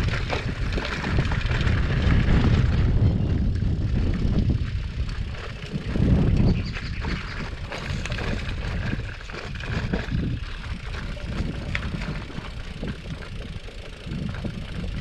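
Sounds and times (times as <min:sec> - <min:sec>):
bike rattling over bumps: 0:00.0 - 0:15.0
tyres rumbling on dirt: 0:00.0 - 0:15.0.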